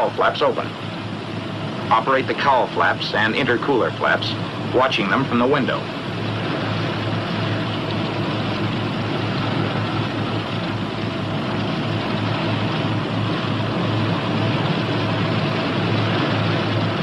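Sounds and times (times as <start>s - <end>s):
aircraft radial engines droning: 0.0s - 17.0s.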